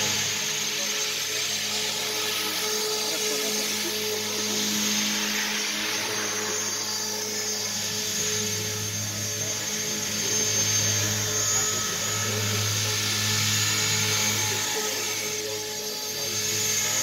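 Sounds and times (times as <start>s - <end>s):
model helicopter whining: 0.0s - 17.0s.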